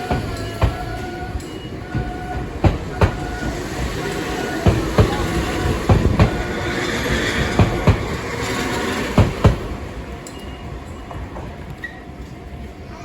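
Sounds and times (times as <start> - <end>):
train wheels clicking over rail joints: 0.0 - 12.1
train rumble: 0.0 - 13.0.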